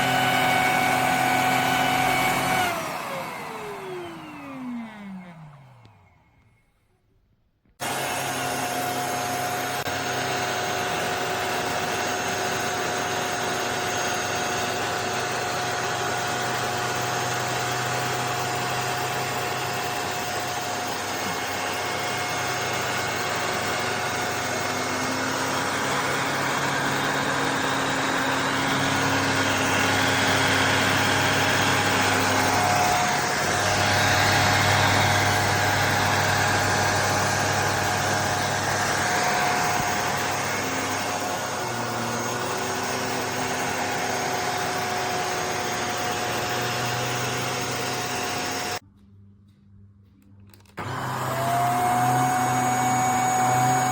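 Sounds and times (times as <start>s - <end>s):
handheld vacuum motor whine: 0.0s - 48.8s, 50.5s - 53.9s.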